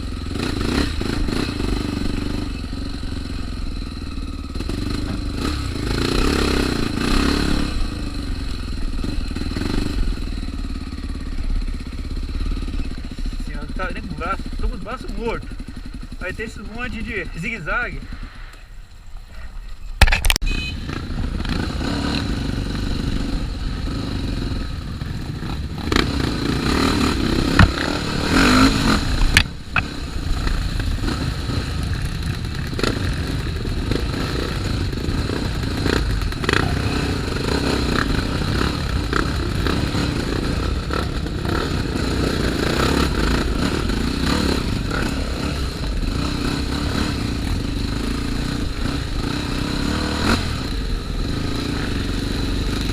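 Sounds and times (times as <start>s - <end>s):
motorcycle engine under load: 0.0s - 52.9s.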